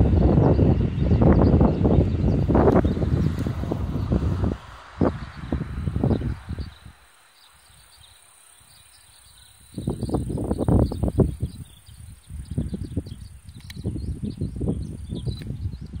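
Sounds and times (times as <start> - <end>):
wind buffeting microphone: 0.0 - 16.0
insects chirping: 1.2 - 16.0.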